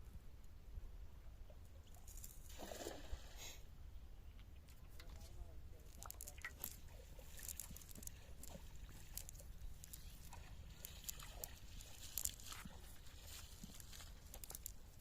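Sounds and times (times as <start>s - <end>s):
water splashing and sloshing: 1.5s - 3.6s, 4.6s - 15.0s.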